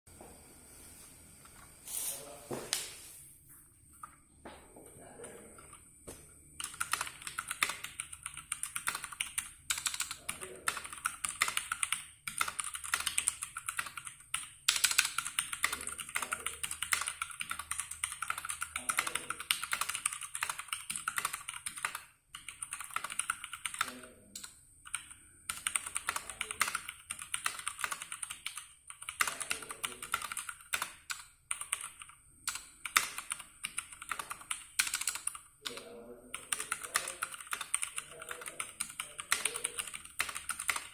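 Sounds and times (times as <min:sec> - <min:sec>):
mechanical keyboard typing: 0:06.6 - 0:40.9.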